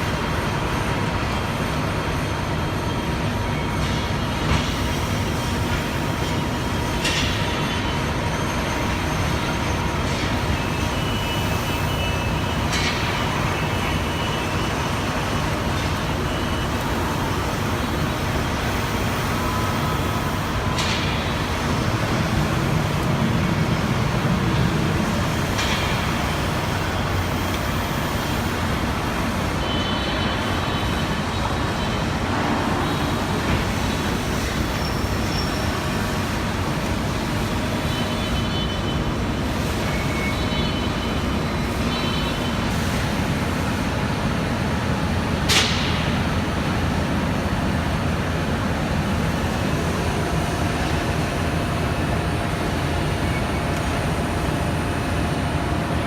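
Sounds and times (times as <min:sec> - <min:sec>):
industrial machinery humming: 0:00.0 - 0:56.0.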